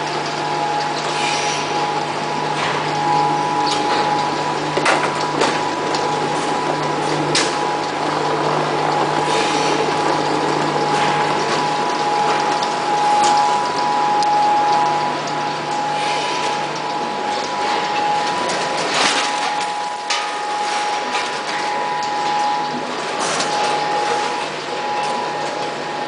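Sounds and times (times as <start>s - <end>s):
high whine: 0.0s - 26.0s
packing machine hum: 0.0s - 26.0s.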